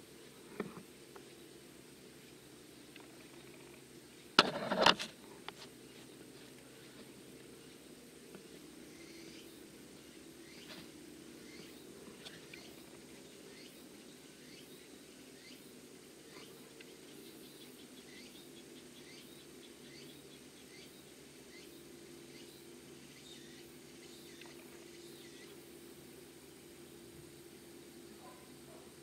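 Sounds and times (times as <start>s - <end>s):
low steady hum: 0.0s - 29.0s
small birds chirping: 5.4s - 29.0s.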